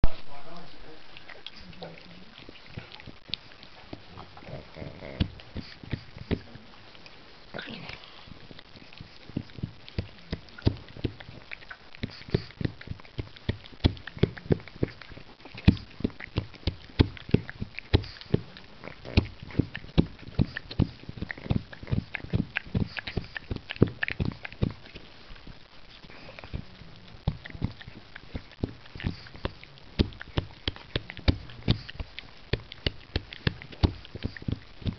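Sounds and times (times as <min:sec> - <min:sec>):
dog chewing on a chew stick: 0:01.1 - 0:34.9.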